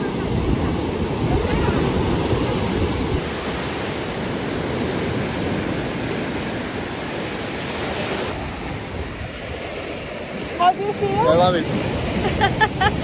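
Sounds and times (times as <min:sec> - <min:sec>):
sea waves breaking: 0:00.0 - 0:13.0.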